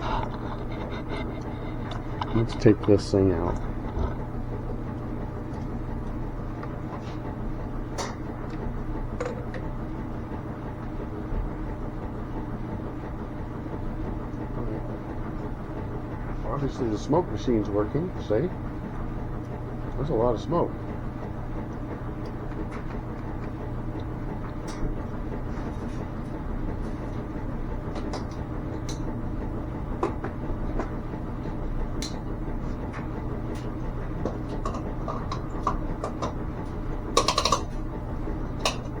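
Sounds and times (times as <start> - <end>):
air pump humming: 0.0 - 39.0.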